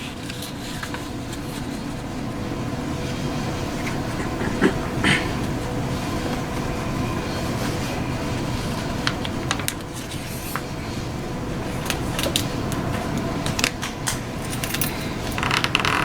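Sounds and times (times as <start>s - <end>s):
paper crinkling and rustling: 0.0s - 4.4s, 5.3s - 16.0s.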